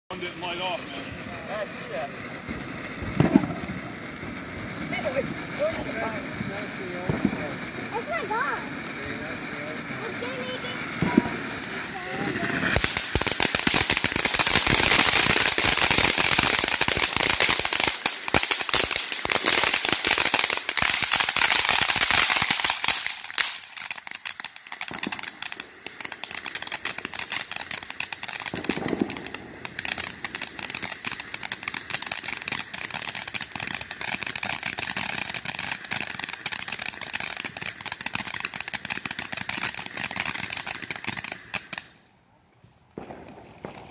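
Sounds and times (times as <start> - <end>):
fountain fireworks hissing and crackling: 0.1 - 42.1, 43.0 - 43.9.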